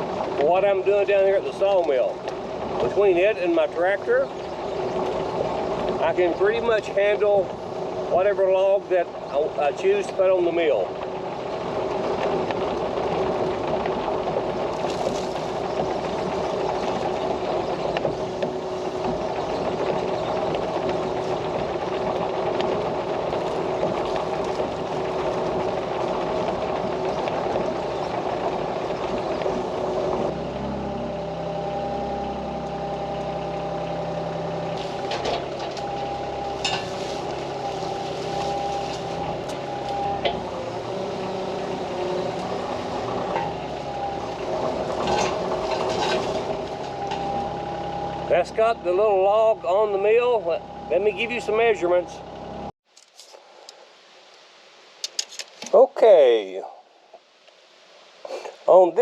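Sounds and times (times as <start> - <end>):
excavator diesel engine running: 0.0 - 52.8.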